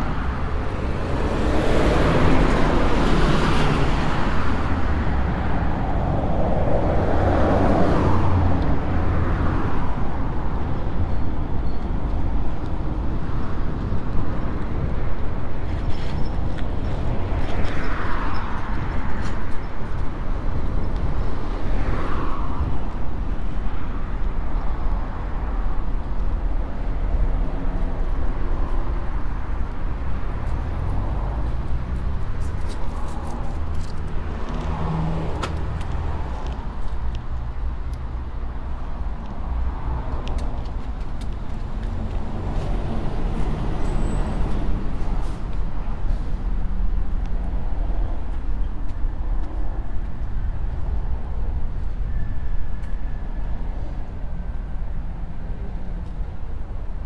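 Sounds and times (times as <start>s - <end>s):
vehicles passing: 0.0s - 57.0s
wind and road noise rumble: 0.0s - 57.0s.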